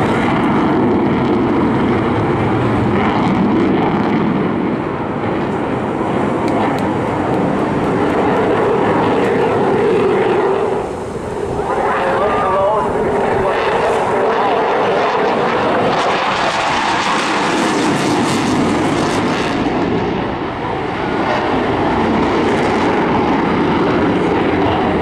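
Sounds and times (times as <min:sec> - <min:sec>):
loud jet noise with crackle: 0:00.0 - 0:25.0.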